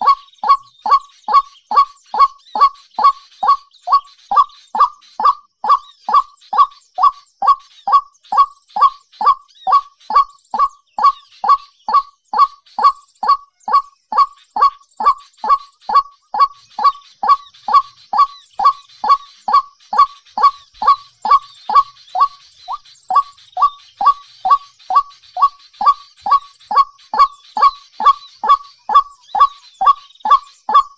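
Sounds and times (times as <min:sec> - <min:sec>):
faint high-pitched twittering: 0:00.0 - 0:30.9.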